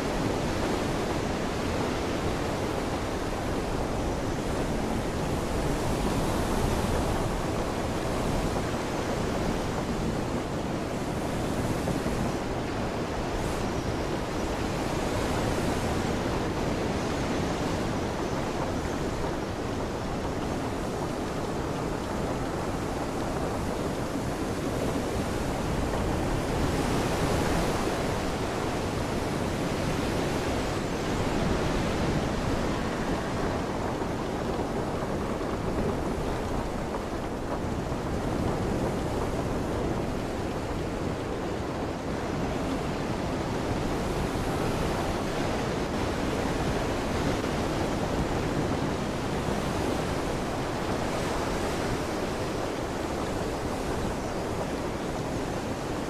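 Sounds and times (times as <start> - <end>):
wind and rain rushing: 0.0 - 56.0
wind buffeting microphone: 0.0 - 56.0.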